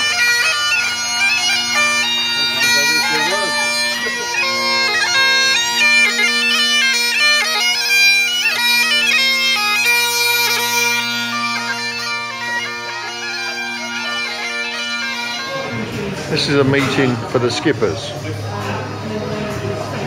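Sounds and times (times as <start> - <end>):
bagpipes playing a tune: 0.0 - 20.0.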